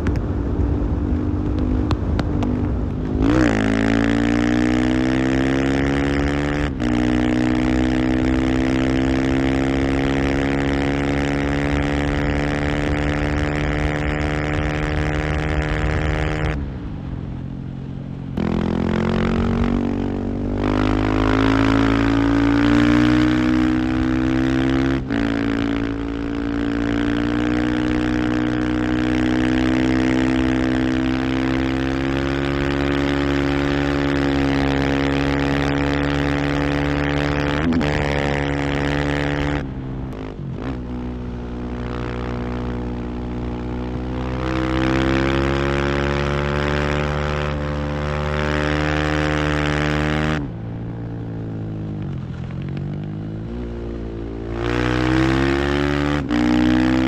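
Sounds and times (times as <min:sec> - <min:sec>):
motorcycle engine revving: 0:00.0 - 0:16.7, 0:18.4 - 0:57.0.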